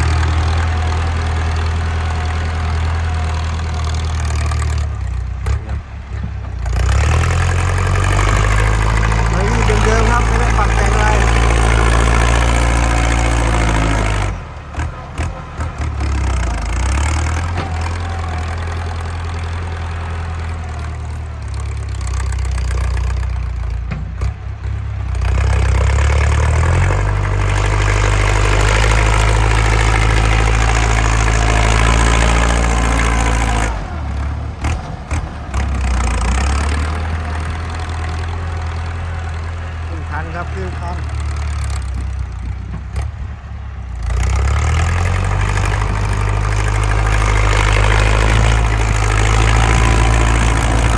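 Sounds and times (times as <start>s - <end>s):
tractor diesel engine with loud exhaust: 0.0s - 50.9s.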